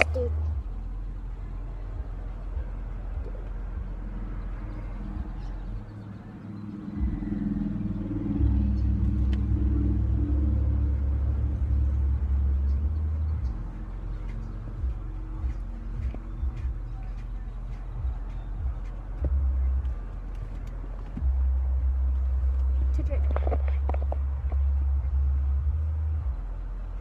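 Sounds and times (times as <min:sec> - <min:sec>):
car engine rumble: 0:00.0 - 0:27.0.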